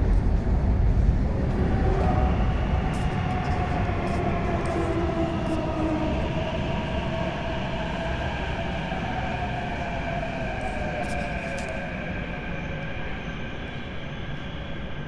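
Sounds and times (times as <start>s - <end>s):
train rumbling with motor whine: 0.0s - 15.0s.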